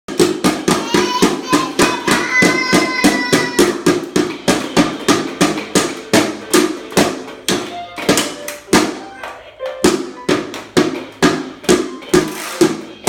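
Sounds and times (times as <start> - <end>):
rhythmic banging: 0.1 - 13.0.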